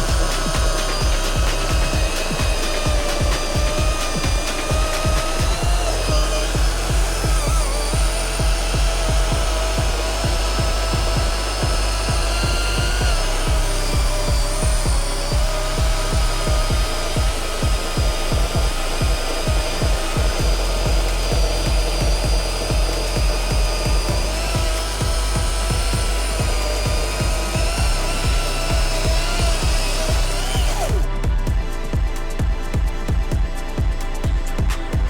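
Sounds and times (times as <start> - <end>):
electric chainsaw cutting wood: 0.0 - 35.0
music with steady beat: 0.0 - 35.0.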